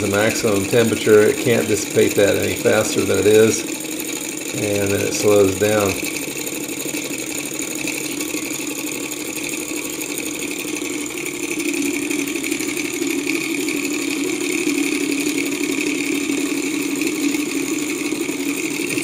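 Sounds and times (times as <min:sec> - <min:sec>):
propeller whirring: 0:00.0 - 0:19.0
stirling engine mechanical chatter: 0:00.0 - 0:19.0.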